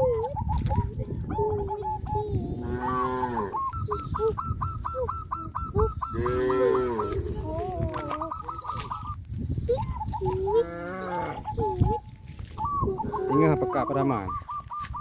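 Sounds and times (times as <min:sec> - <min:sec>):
farm fowl calling: 0:02.0 - 0:09.2, 0:10.0 - 0:15.0.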